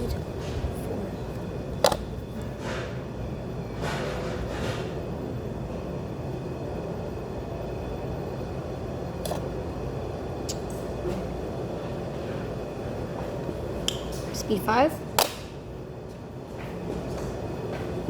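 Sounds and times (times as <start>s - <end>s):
ceiling fan running: 0.0s - 18.0s.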